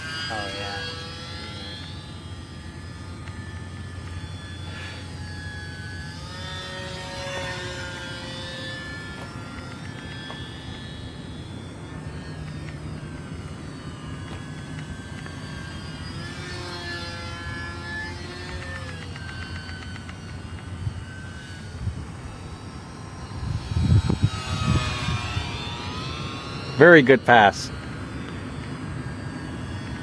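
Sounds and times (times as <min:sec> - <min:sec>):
model plane motor whine: 0:00.0 - 0:30.0.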